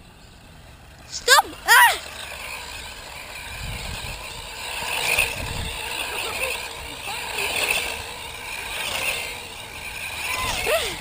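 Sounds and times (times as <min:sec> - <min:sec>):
remote-control car driving: 0:00.0 - 0:11.0.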